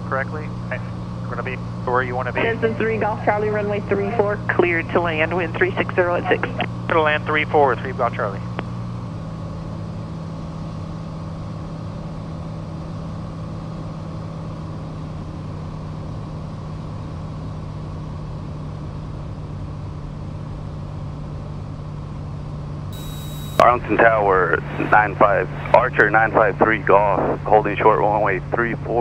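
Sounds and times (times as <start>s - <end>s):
aircraft engine and propeller drone: 0.0s - 29.0s.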